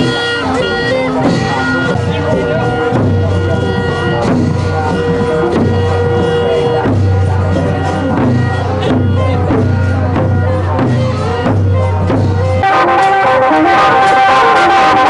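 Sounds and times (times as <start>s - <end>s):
deep drum beat: 0.0s - 14.9s
procession music: 0.0s - 15.0s
sustained brass-like tones: 0.0s - 15.0s.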